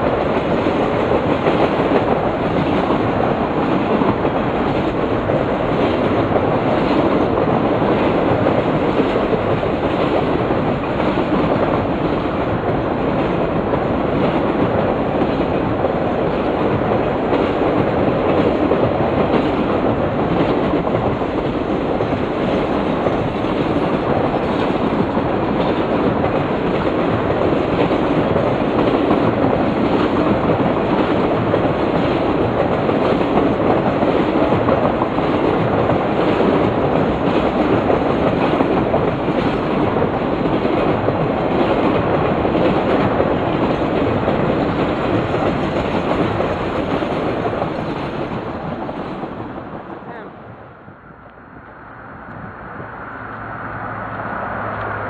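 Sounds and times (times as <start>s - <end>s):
wheels clacking over rail joints: 0.0s - 50.1s
train wheels rumbling on rail: 0.0s - 55.0s.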